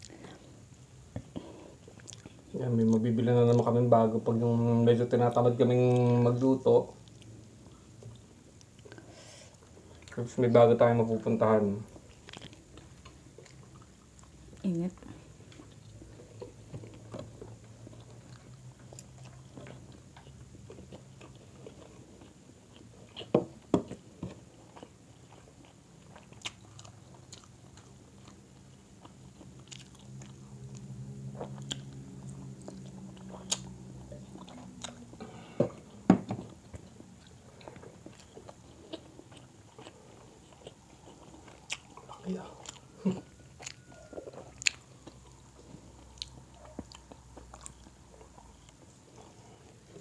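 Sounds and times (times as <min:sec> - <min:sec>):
chewing and biting food: 0:01.2 - 0:03.7, 0:11.9 - 0:50.0.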